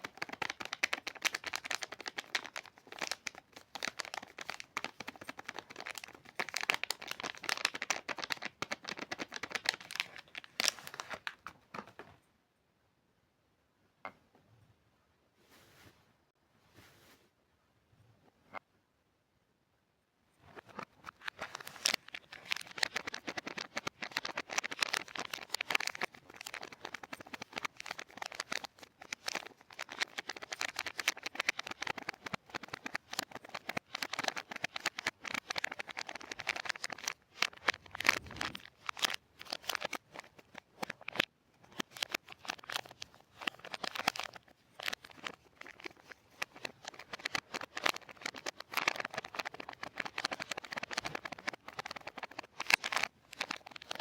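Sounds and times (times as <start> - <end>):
soap packaging crinkling: 0.0 - 12.0, 20.5 - 54.0.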